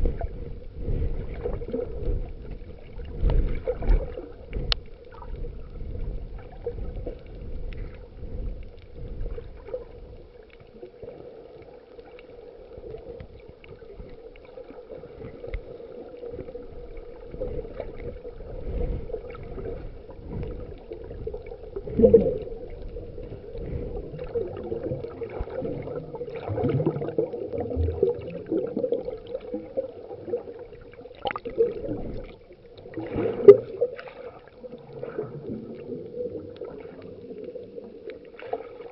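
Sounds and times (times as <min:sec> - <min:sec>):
muffled water sounds: 0:00.0 - 0:38.9.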